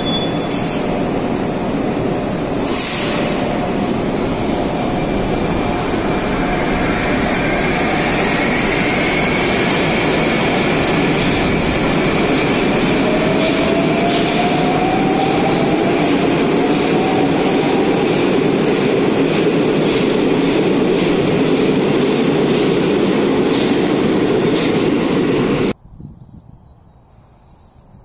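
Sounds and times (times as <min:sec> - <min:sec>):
rumble of train wheels on track: 0:00.0 - 0:25.8.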